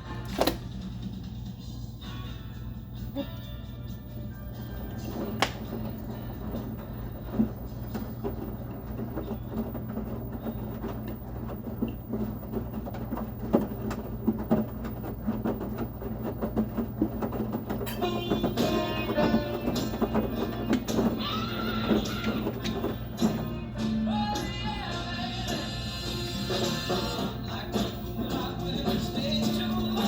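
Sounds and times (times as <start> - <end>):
washing machine humming: 0.0 - 30.0.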